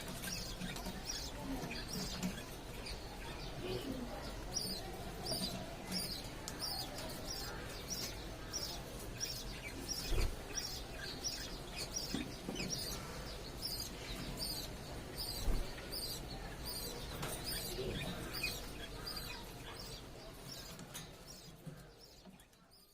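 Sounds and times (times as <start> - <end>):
parrots chirping: 0.0 - 22.9.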